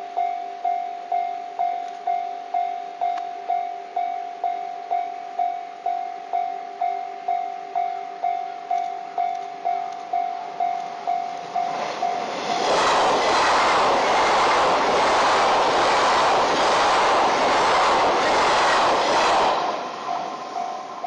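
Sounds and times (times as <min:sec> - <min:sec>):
electric train passing: 0:00.0 - 0:21.0
level-crossing alarm ringing: 0:00.0 - 0:21.0.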